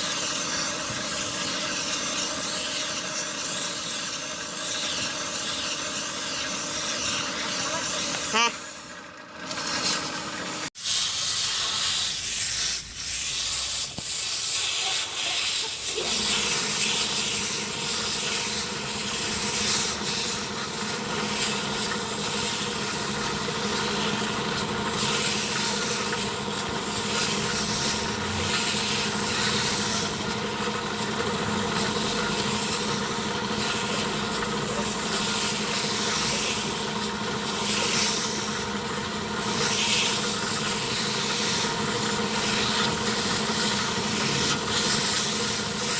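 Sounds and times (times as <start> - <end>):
compressed air hissing from blow gun: 0.0 - 8.9, 9.6 - 30.8, 31.7 - 45.9
motor hum: 0.0 - 10.7, 15.9 - 45.9.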